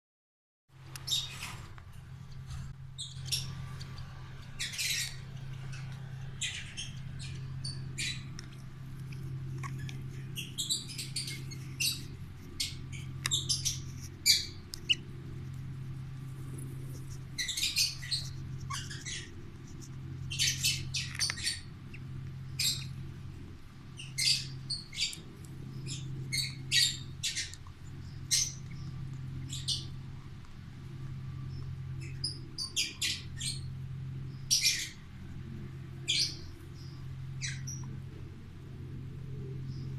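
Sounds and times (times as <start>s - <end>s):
steady low hum: 0.7s - 39.9s
birds chirping and squawking: 1.0s - 39.9s.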